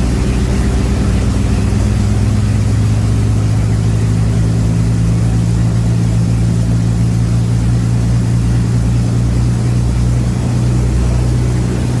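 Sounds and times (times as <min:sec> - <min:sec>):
aircraft engine running: 0:00.0 - 0:12.0.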